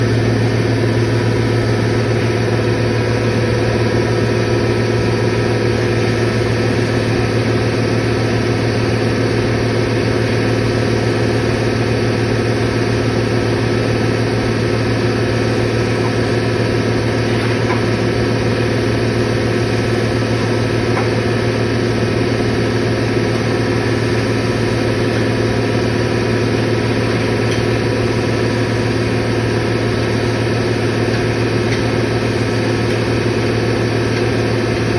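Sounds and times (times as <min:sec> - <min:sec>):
compressor motor humming: 0:00.0 - 0:34.9.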